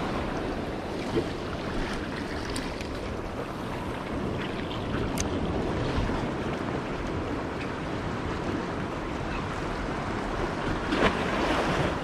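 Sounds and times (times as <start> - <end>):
sea waves washing on rocks: 0.0 - 12.0
wind buffeting microphone: 0.0 - 12.0.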